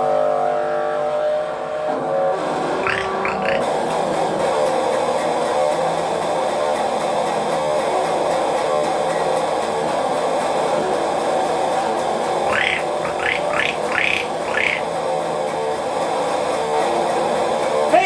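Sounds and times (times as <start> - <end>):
instrumental guitar music: 2.8 - 18.0.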